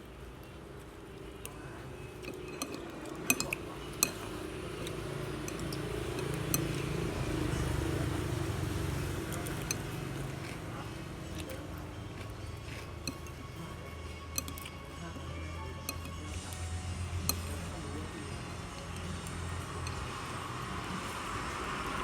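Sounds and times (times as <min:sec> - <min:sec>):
utensils clinking on bowls: 0:01.4 - 0:22.0.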